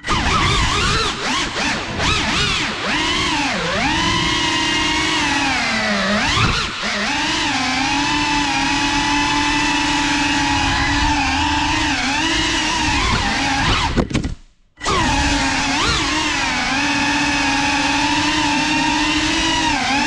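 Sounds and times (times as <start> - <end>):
drone motors whining: 0.0 - 14.2, 14.8 - 20.0.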